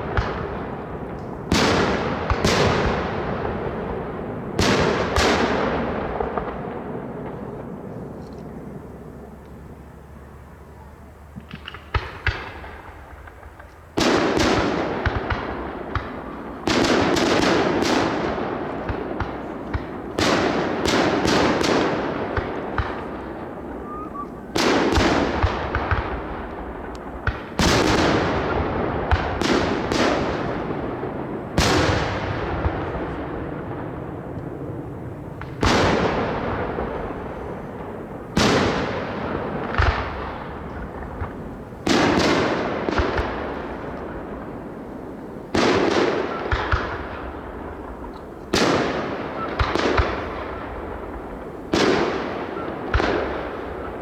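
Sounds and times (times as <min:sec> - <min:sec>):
rolling echo: 0:00.0 - 0:54.0.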